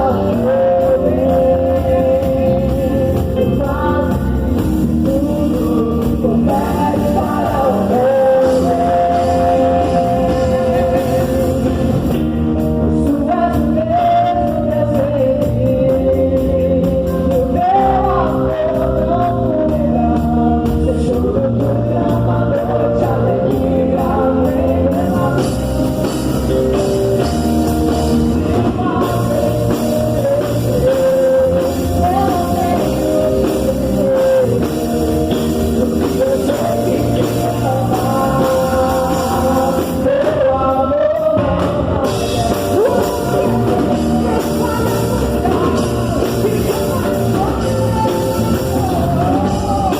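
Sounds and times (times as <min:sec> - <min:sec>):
band accompaniment: 0:00.0 - 0:49.9
person singing gospel song: 0:00.0 - 0:49.9.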